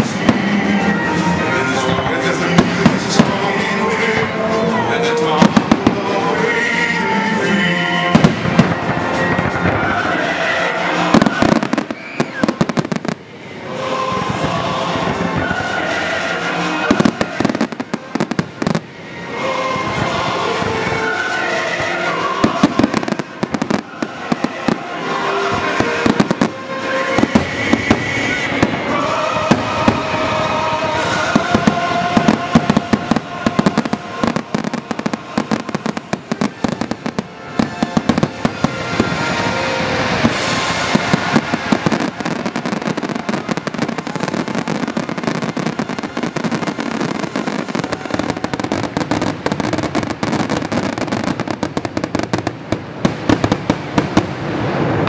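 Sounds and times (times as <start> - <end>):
fireworks banging and crackling: 0.0 - 55.0
music playing: 0.0 - 55.0.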